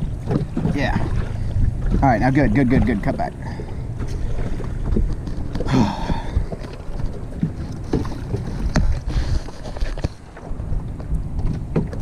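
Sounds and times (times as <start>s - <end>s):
low boat rumble: 0.0s - 12.0s
wind buffeting microphone: 0.0s - 12.0s.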